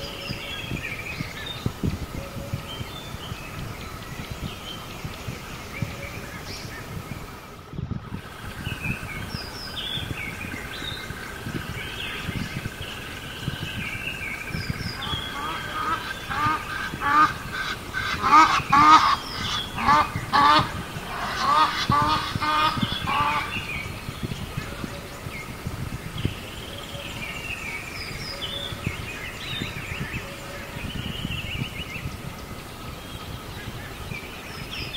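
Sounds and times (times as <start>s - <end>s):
birds calling: 0.0s - 34.9s.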